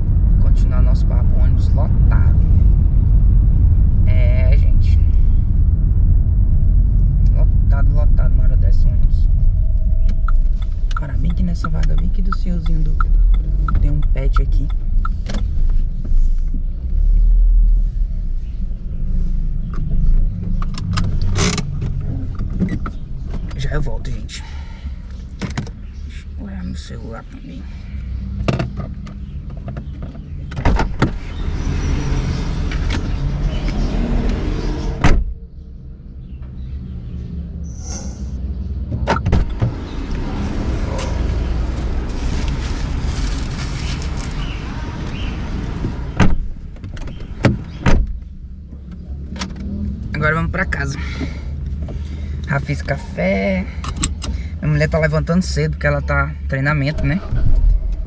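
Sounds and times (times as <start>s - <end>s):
car engine rumble from inside: 0.0s - 58.0s.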